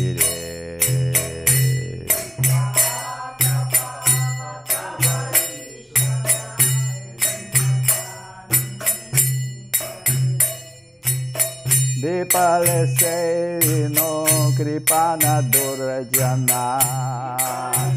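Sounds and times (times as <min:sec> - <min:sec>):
hand cymbals struck: 0:00.0 - 0:17.9.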